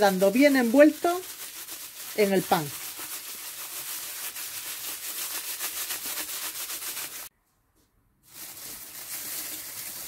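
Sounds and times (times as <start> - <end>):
plastic bag rustling: 0.0 - 7.3, 8.3 - 10.0.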